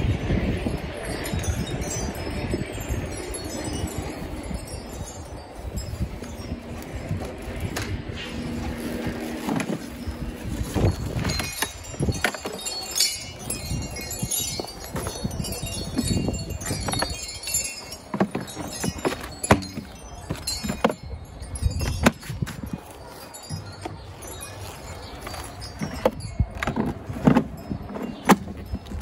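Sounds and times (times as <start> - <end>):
light high tinkling: 0.0 - 29.0.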